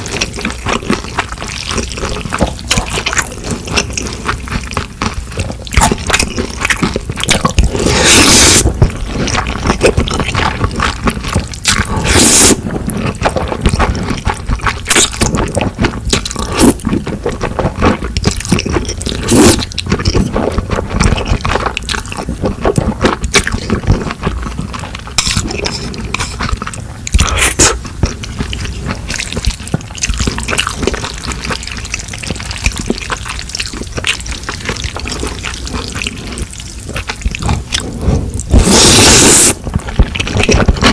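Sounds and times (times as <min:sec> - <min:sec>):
wet sticky noodle sounds: 0:00.0 - 0:40.9.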